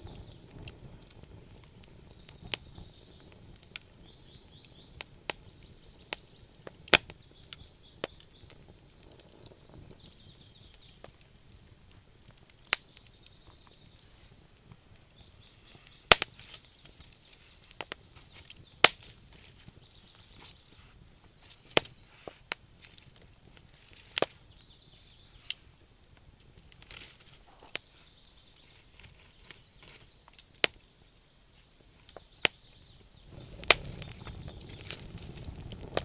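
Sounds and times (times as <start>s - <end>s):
faint steady hiss: 0.0s - 36.0s
wood fire crackling: 0.0s - 36.0s.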